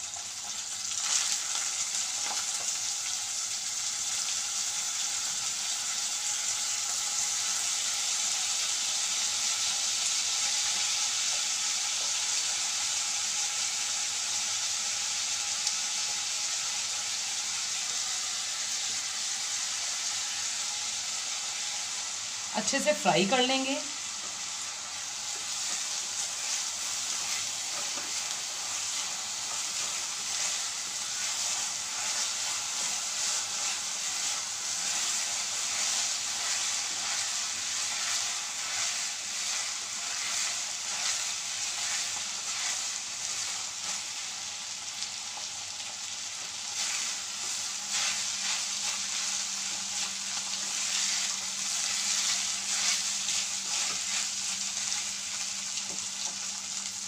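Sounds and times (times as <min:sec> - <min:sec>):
rice sizzling in hot fat: 0:00.0 - 0:57.0.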